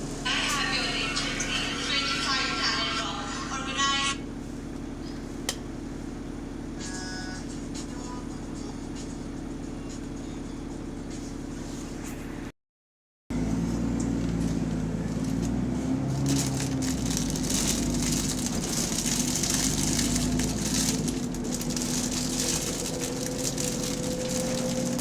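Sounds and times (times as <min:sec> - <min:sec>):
bus engine drone: 0:00.0 - 0:12.5, 0:13.3 - 0:25.0.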